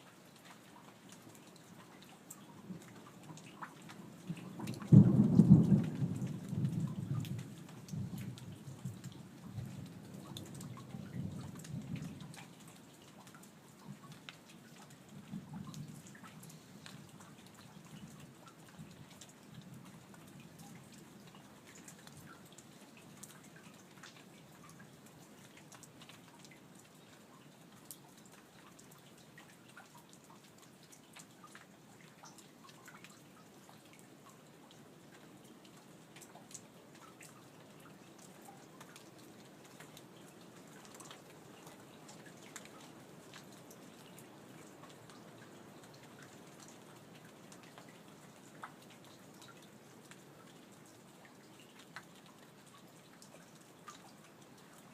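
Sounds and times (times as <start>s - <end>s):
faint steady rain hiss: 0.0s - 54.9s
rain drips ticking: 0.0s - 54.9s.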